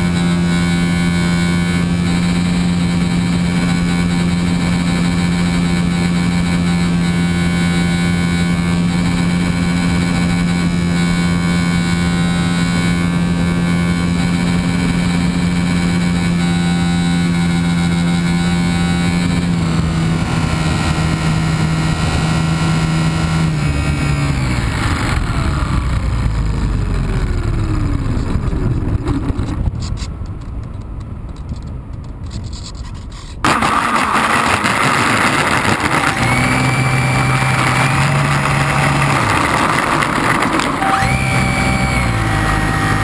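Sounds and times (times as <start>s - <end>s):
model plane motor buzzing: 0.0s - 26.8s, 32.6s - 43.0s
wind noise: 0.0s - 43.0s.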